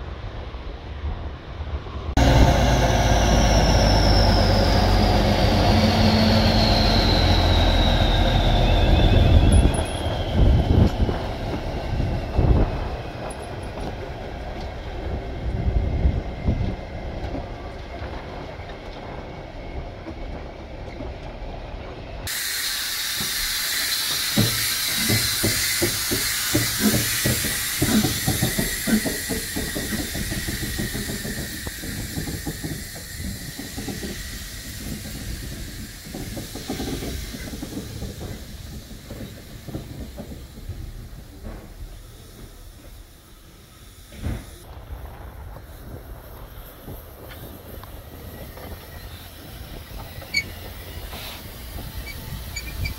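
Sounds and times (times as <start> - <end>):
diesel locomotive rumbling: 0.0 - 52.9
steam locomotive hissing: 2.1 - 20.4, 21.1 - 52.9
steam locomotive exhaust chuffs: 2.1 - 52.9.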